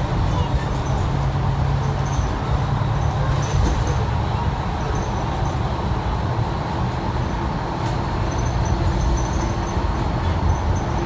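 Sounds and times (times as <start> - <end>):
bus cabin running noise: 0.0 - 11.0.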